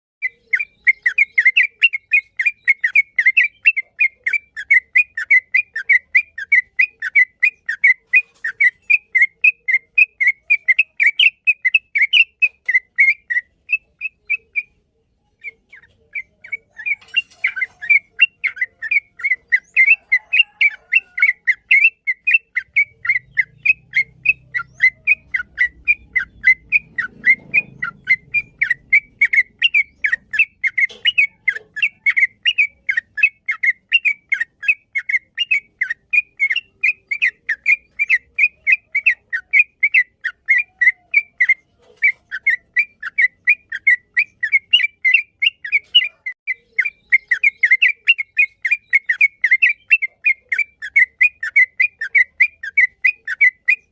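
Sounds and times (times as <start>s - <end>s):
bird singing rapid whistled notes: 0.2s - 53.9s.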